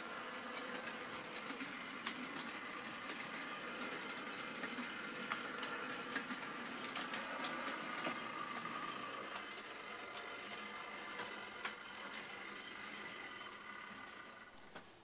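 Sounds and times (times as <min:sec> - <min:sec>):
little track clicks: 0:00.0 - 0:14.9
faint steady whine: 0:00.0 - 0:15.0
model train wheels rumbling: 0:00.0 - 0:15.0.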